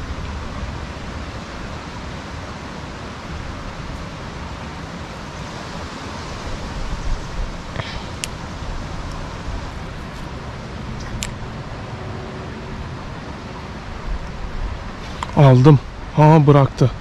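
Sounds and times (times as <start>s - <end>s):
wind on microphone: 0.0s - 16.1s.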